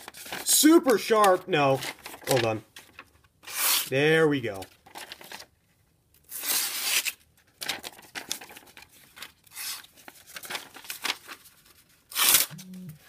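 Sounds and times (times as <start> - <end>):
paper tearing and rustling: 0.0 - 3.9, 4.5 - 5.5, 6.3 - 12.6.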